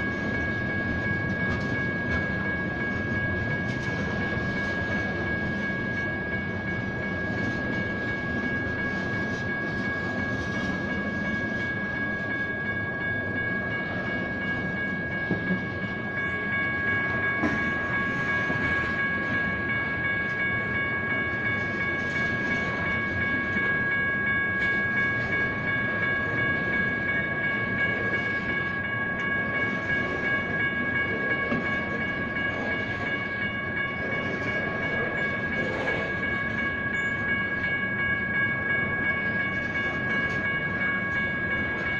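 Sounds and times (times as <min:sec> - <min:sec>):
crossing signal bells ringing: 0:00.0 - 0:41.9
freight train clattering on rails: 0:00.0 - 0:41.9.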